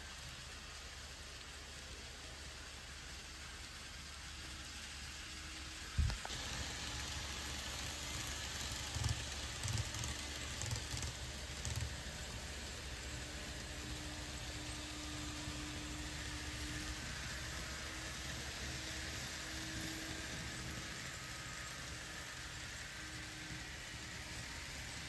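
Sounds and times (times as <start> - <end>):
model train wheels on rails: 0.0 - 25.0.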